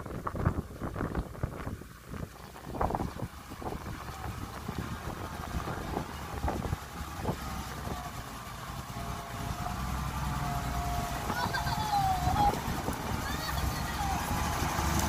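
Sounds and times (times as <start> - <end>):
diesel truck engine rumble: 0.0 - 15.0.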